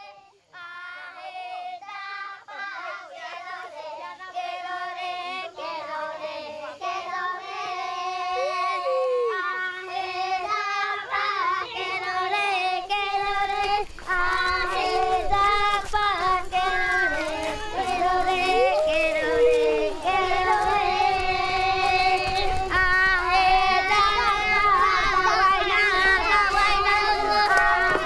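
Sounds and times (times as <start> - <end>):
children singing a chant: 0.0 - 28.0.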